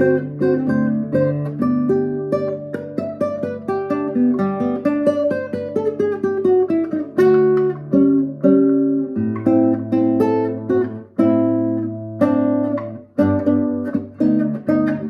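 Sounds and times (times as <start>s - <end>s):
classical guitar playing: 0.0s - 15.0s.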